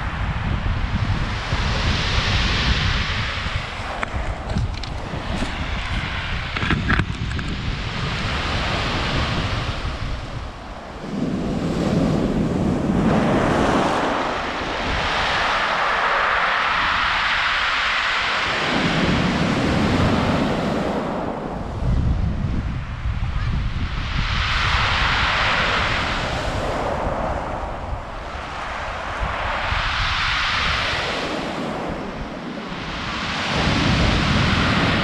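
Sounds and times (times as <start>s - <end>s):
wind buffeting microphone: 0.0s - 35.0s
waves washing over shingle: 1.3s - 21.7s, 24.4s - 35.0s.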